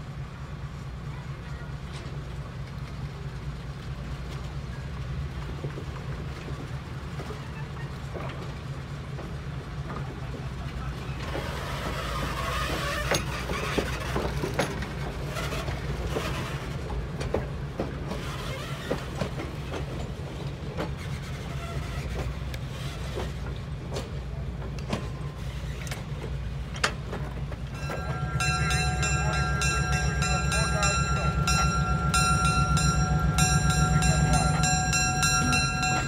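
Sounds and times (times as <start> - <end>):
locomotive engine rumble: 0.0 - 36.0.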